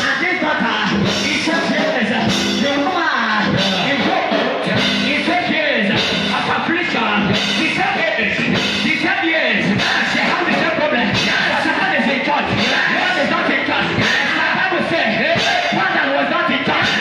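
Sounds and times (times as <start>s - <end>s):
loud amplified music: 0.0s - 17.0s
man singing into microphone: 0.0s - 17.0s.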